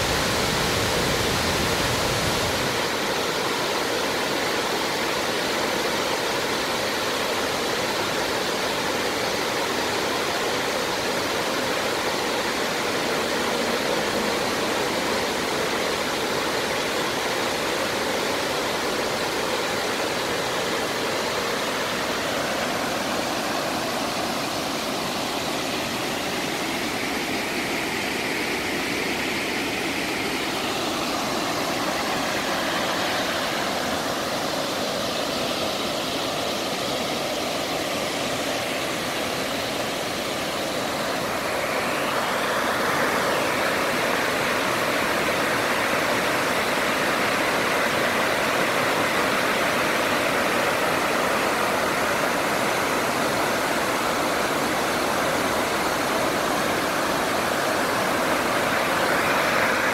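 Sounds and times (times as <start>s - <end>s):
water rushing over waterfalls: 0.0s - 59.9s.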